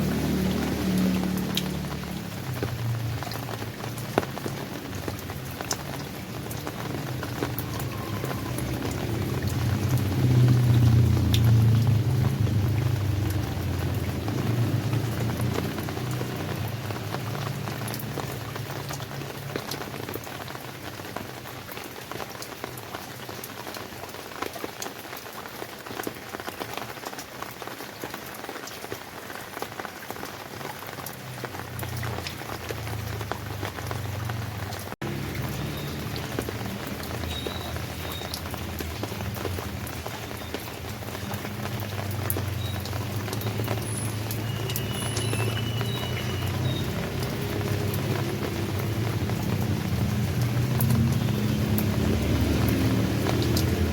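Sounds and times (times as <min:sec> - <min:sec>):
rain falling: 0:00.0 - 0:53.9
raindrops ticking: 0:00.0 - 0:53.9.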